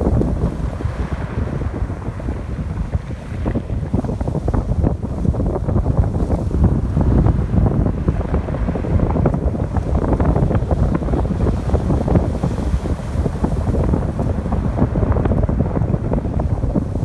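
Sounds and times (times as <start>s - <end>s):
ocean waves washing ashore: 0.0s - 17.0s
wind buffeting microphone: 0.0s - 17.0s.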